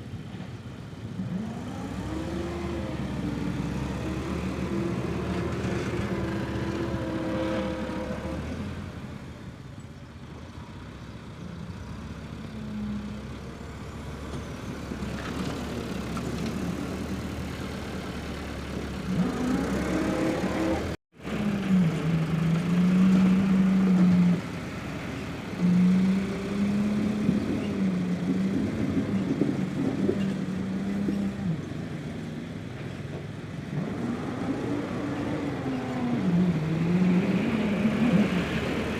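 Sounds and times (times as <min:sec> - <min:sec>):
tractor engine revving: 0:01.2 - 0:09.4, 0:12.7 - 0:32.9, 0:33.5 - 0:38.9.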